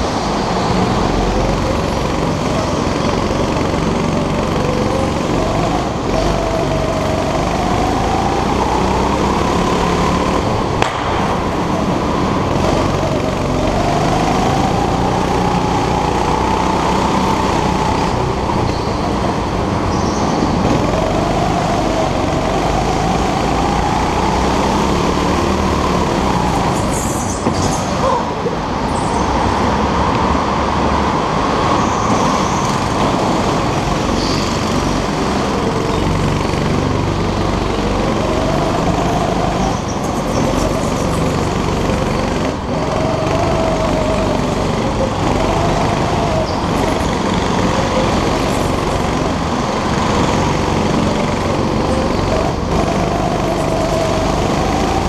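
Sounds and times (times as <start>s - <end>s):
go-kart motor: 0.0s - 55.0s.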